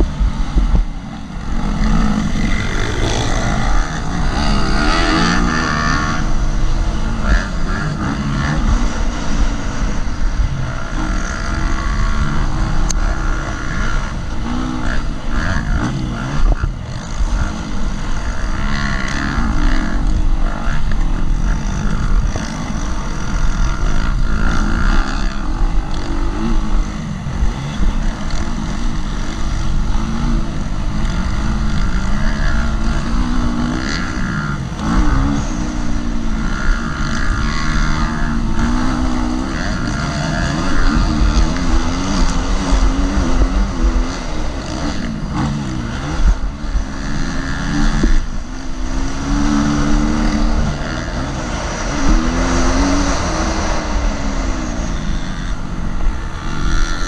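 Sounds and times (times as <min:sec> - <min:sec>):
motocross engine accelerating: 0:00.0 - 0:57.0.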